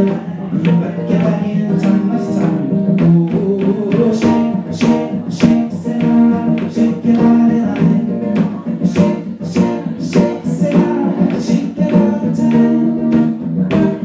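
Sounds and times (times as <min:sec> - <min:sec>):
acoustic guitar strumming: 0:00.0 - 0:14.0
man singing into a microphone: 0:00.0 - 0:14.0.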